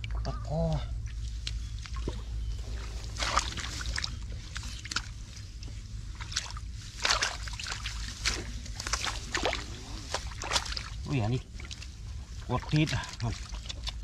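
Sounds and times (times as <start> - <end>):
hands splashing in muddy water: 1.5 - 5.5, 6.1 - 14.0.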